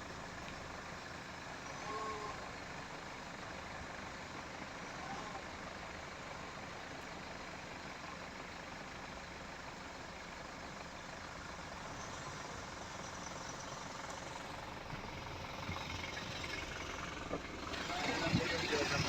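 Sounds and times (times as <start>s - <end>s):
road rumble: 0.0s - 19.0s
vehicle engine: 0.0s - 19.0s.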